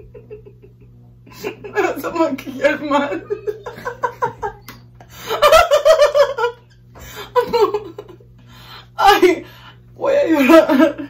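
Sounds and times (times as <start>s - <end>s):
woman laughing: 0.0s - 8.3s, 10.3s - 11.0s.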